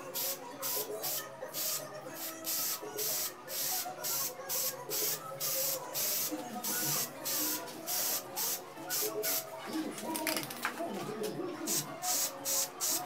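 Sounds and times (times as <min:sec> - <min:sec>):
spray can hissing: 0:00.1 - 0:09.5, 0:11.7 - 0:13.0.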